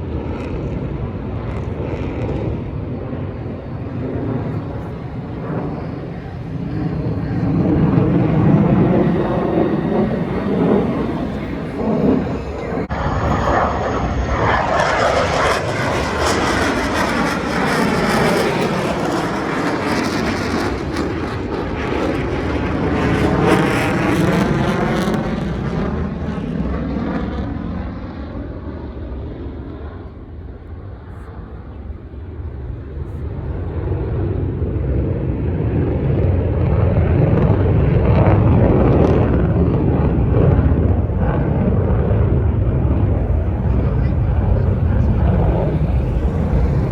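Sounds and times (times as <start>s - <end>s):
jet flying past: 0.0s - 46.9s.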